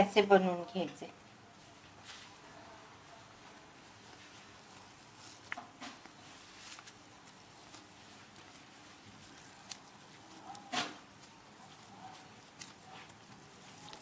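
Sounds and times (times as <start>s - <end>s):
soft pats of hands shaping dough: 0.8s - 14.0s.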